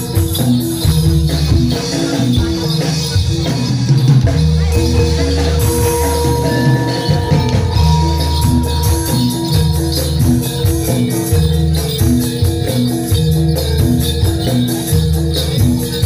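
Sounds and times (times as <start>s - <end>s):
gamelan ensemble playing: 0.0s - 16.0s
jingling percussion: 0.0s - 16.0s.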